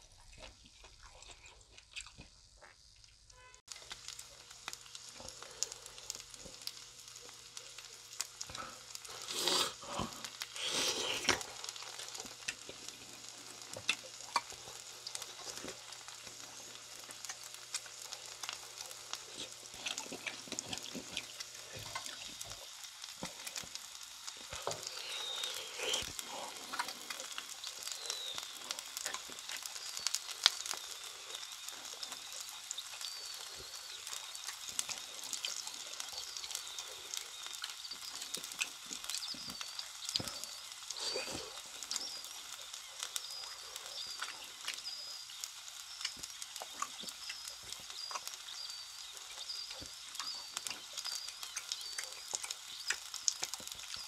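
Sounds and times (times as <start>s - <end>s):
chicken skewers sizzling: 0.0s - 54.0s.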